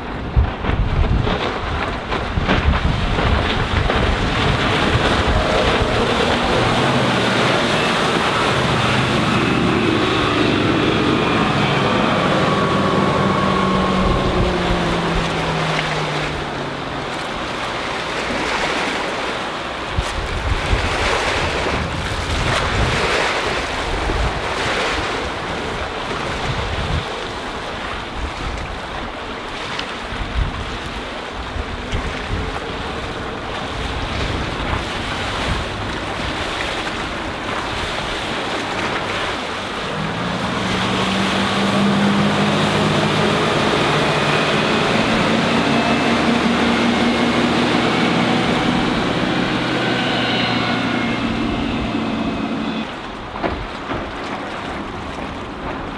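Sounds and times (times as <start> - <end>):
boat engine: 0.0 - 55.9
rushing water: 0.0 - 55.9
wind buffeting microphone: 0.0 - 55.9.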